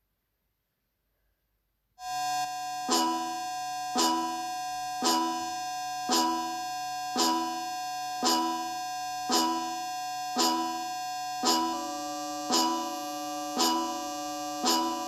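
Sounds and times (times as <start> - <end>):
droning alarm chord: 2.0 - 15.0.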